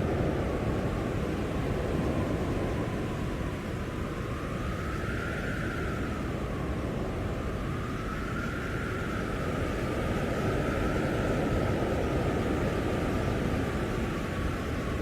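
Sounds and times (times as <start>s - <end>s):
faint thin wind howl: 0.0s - 15.0s.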